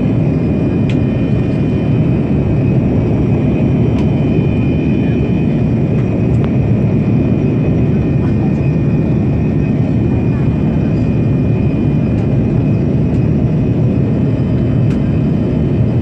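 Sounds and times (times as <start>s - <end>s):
low rumble of engines and airflow: 0.0s - 16.0s.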